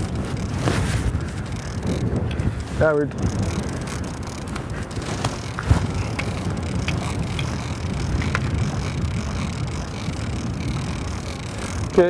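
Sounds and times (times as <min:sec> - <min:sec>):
outboard motor rumble: 0:00.0 - 0:12.0
wind buffeting microphone: 0:00.0 - 0:12.0.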